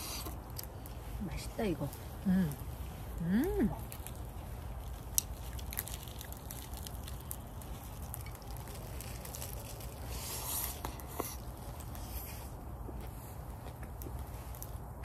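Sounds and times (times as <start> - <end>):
steady low hum: 0.0 - 15.0
squishy chewing: 1.8 - 14.7.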